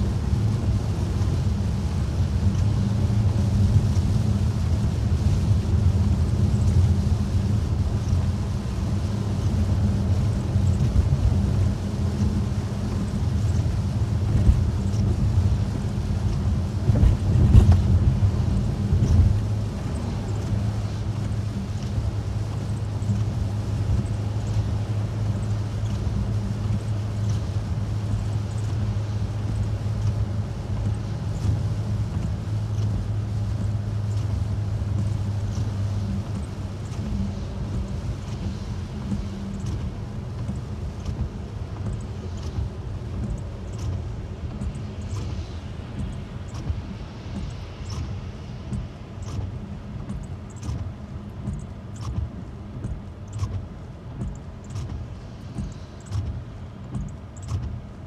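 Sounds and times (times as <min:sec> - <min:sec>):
engine and tyres hum: 0:00.0 - 0:58.0.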